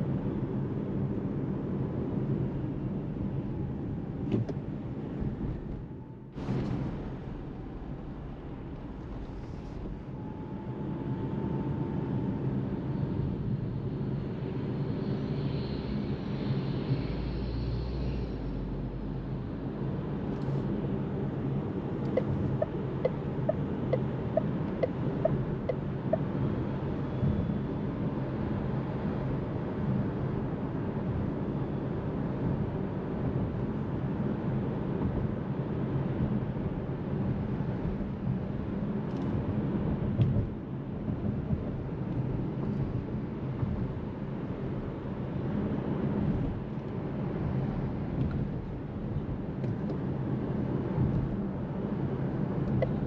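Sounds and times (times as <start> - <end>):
tyre and road noise in car cabin: 0.1 - 13.4, 19.1 - 53.0.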